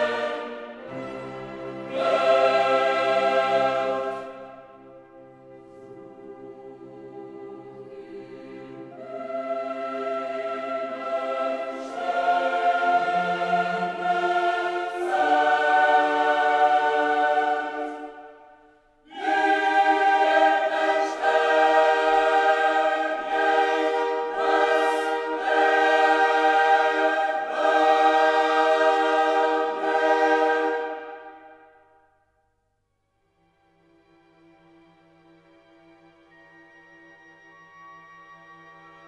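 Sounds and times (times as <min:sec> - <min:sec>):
choir singing held chords: 0:00.0 - 0:32.0.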